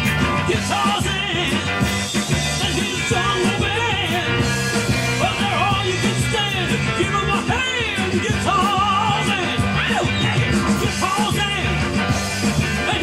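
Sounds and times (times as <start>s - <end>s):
rock and roll band music: 0.0s - 13.0s.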